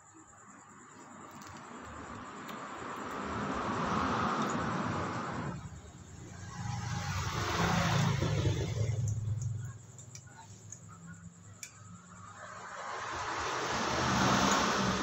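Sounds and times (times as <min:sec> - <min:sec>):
vehicle engine passing by: 0:01.2 - 0:15.0.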